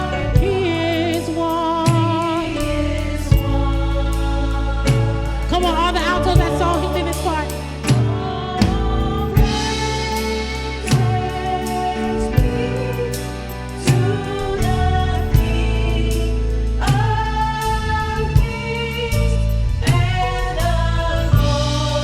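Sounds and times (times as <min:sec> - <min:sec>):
band with drums and bass: 0:00.0 - 0:22.0
choir singing held notes: 0:00.0 - 0:22.0.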